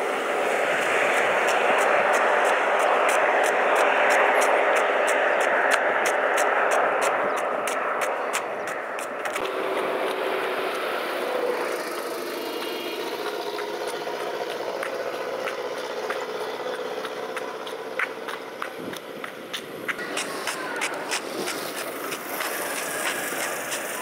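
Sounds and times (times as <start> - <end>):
vehicle engine running: 0.0 - 24.0
sharp ticks: 0.8 - 24.0.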